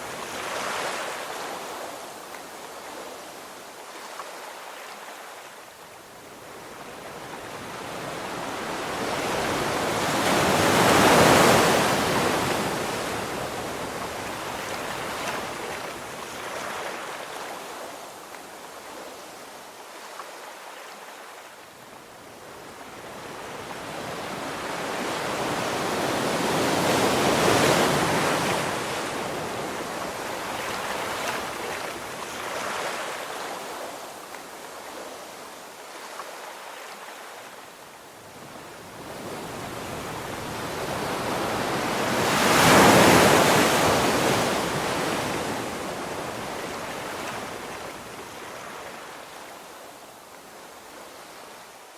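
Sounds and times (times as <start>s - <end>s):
waves crashing on beach: 0.0s - 51.9s.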